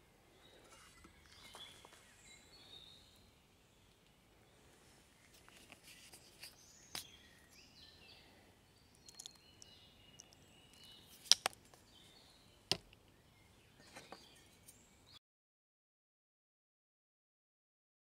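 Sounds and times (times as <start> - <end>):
faint bird chirps: 0.0 - 15.2.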